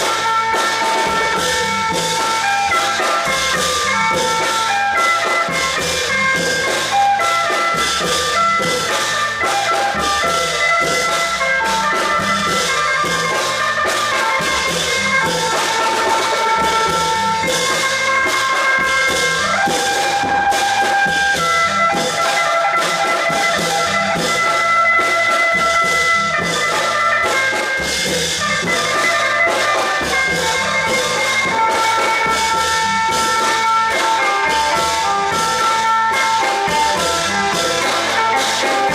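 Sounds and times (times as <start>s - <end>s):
drums and cymbals beat: 0.0s - 38.9s.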